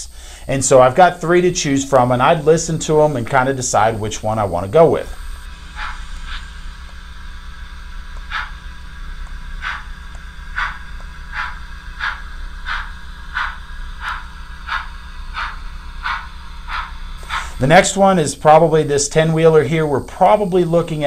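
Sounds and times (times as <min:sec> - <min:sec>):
model locomotive steam chuffs: 0:00.0 - 0:21.0
steady low hum: 0:00.0 - 0:21.0.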